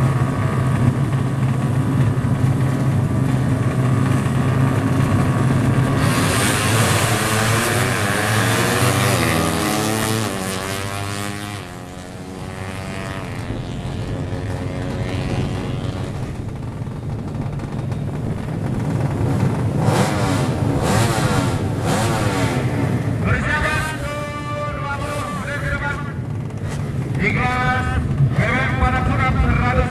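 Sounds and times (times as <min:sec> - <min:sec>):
motorcycles revving at full throttle: 0:00.0 - 0:29.9.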